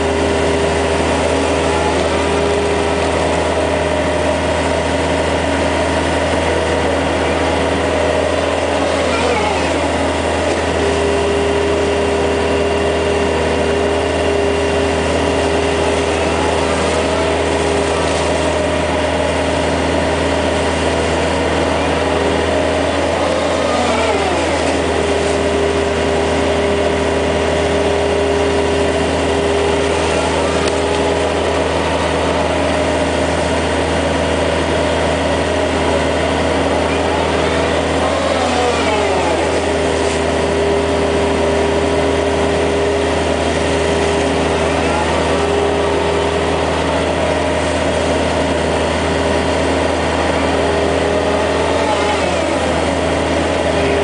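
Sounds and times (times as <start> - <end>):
mini excavator diesel engine running: 0.0 - 54.0.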